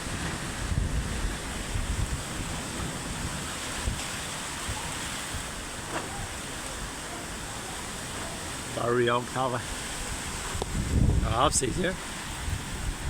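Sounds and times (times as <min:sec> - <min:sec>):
wind buffeting microphone: 0:00.0 - 0:08.8, 0:09.6 - 0:13.0
heavy rain: 0:00.0 - 0:13.0
wind: 0:00.0 - 0:13.0.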